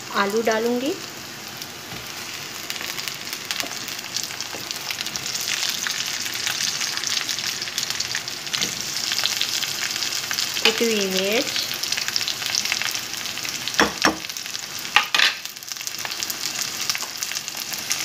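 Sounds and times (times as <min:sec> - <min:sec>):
potatoes frying in hot oil: 0:00.0 - 0:18.0.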